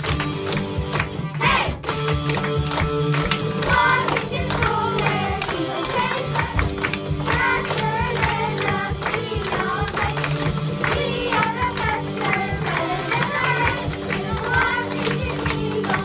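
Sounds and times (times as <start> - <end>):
backing music with steady beat: 0.0 - 16.0
children singing together: 1.4 - 1.8, 3.5 - 16.0.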